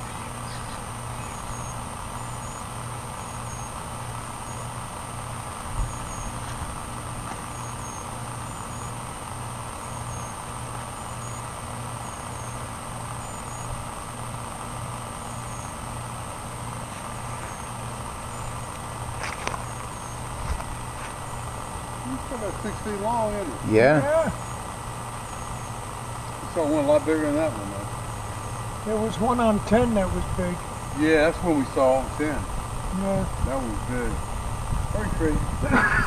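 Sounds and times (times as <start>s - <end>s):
motor humming: 0.0s - 36.0s
thin steady whine: 0.0s - 36.0s.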